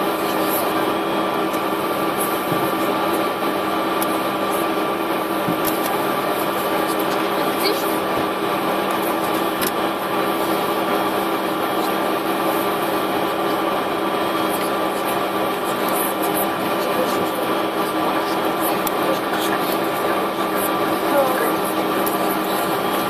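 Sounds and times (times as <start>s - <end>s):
aircraft systems hum: 0.0s - 23.0s.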